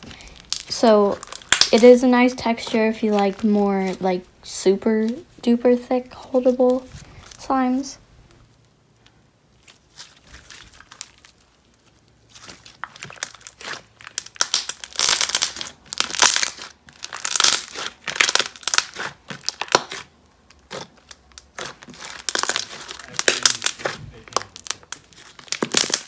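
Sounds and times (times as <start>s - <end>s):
slime crackling and popping: 0.0s - 7.9s, 9.6s - 26.0s.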